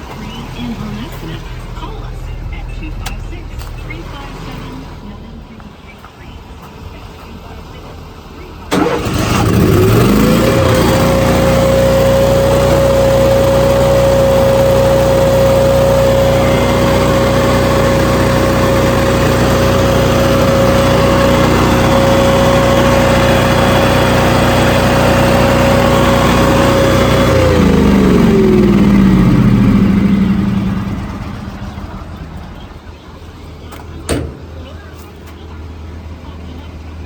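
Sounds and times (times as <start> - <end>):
truck engine whining: 0.0 - 37.0.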